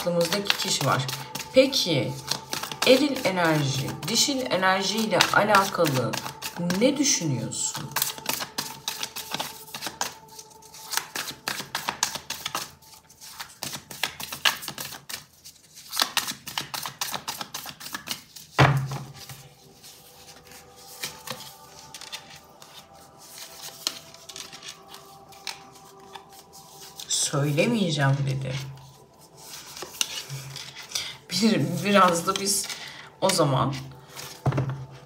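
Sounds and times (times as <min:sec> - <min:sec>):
cards being shuffled: 0:00.0 - 0:07.0, 0:07.7 - 0:27.6, 0:28.2 - 0:35.0
faint background music: 0:00.0 - 0:35.0.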